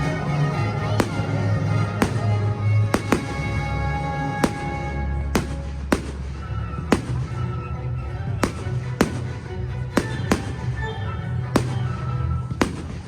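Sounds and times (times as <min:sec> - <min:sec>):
fireworks bangs: 0:00.9 - 0:13.0.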